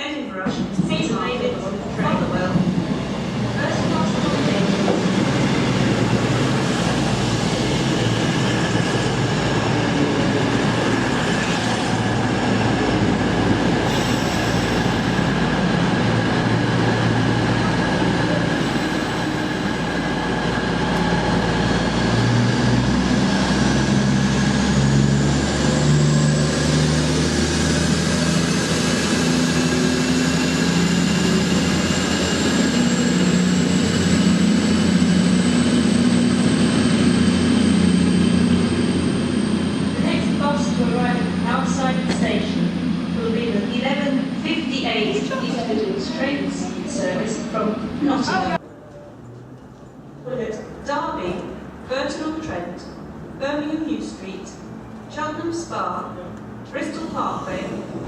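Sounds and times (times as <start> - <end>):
rail noise: 0.0 - 58.0
diesel train engines running up: 0.3 - 58.0.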